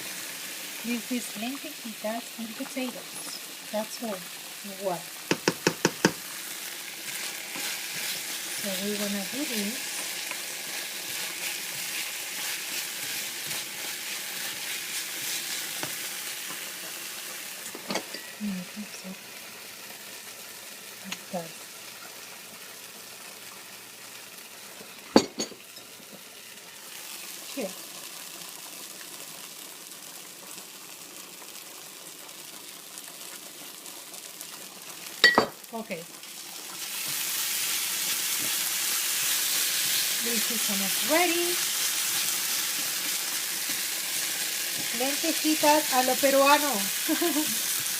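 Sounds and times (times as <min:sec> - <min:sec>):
garlic sizzling in hot oil: 0:00.0 - 0:47.9.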